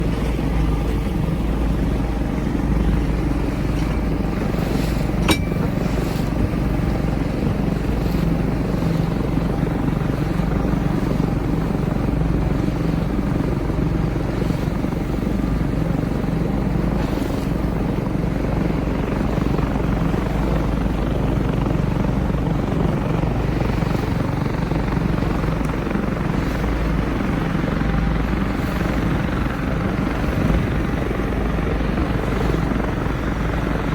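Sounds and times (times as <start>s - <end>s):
boat motor rumbling: 0.0s - 33.9s.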